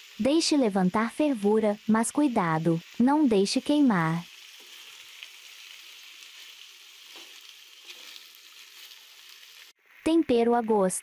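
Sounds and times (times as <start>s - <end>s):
beef and onions sizzling: 0.0s - 11.0s.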